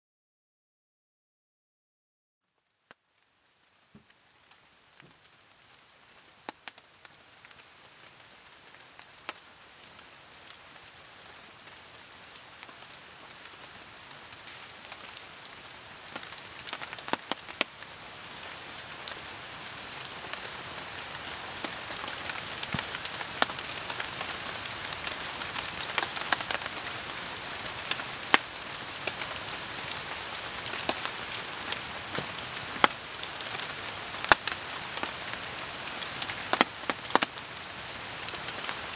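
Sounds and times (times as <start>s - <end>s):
rain falling: 2.4s - 38.9s
campfire crackling and popping: 6.4s - 38.9s.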